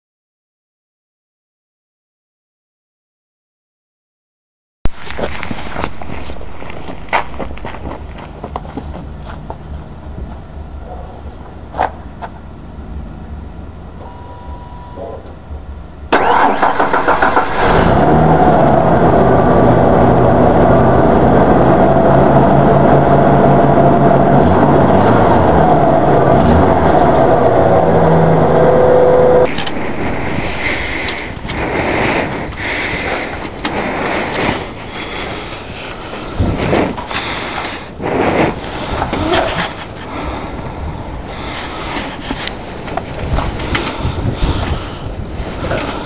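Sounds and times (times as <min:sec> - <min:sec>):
truck engine cranking and idling: 0:04.9 - 0:14.6, 0:15.4 - 0:46.0.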